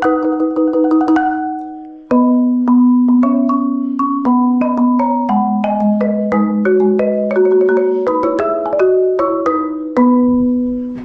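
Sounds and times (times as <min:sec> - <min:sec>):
marimba notes: 0:00.0 - 0:11.0.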